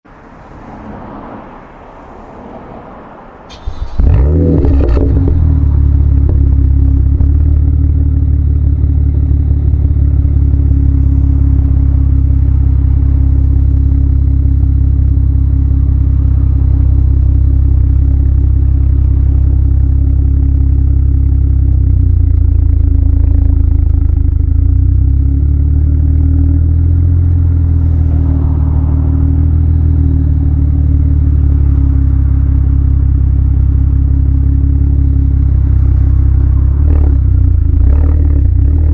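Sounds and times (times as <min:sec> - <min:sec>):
car engine idling: 0:03.3 - 0:38.9.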